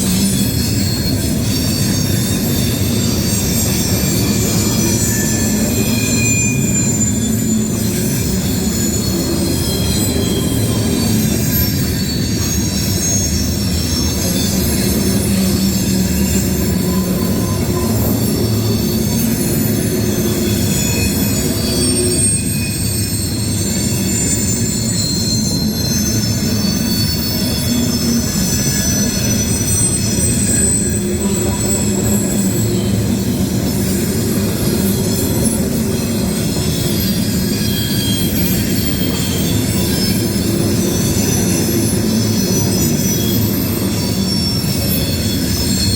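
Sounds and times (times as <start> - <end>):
freight train rumbling past: 0.0 - 45.9
steel wheels squealing on rails: 0.0 - 45.9.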